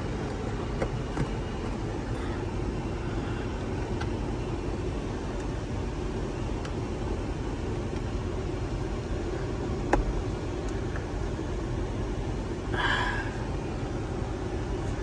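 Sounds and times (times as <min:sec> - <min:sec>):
car cabin low hum: 0:00.0 - 0:15.0.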